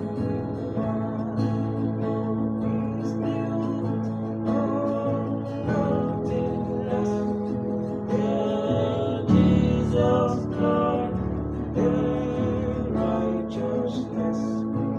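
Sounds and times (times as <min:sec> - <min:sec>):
slow hymn played on guitar: 0:00.0 - 0:14.9.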